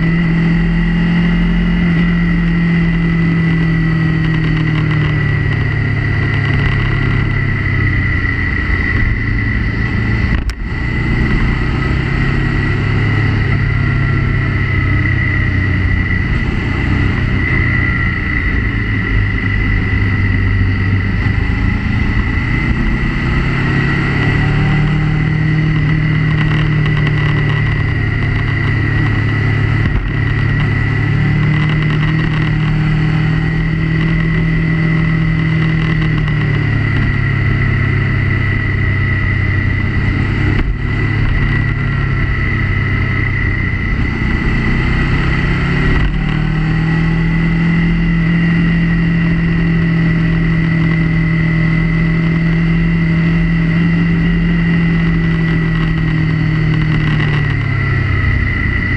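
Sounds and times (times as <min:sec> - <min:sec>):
motorcycle engine running: 0:00.0 - 0:58.9
steady high whine: 0:00.0 - 0:58.9.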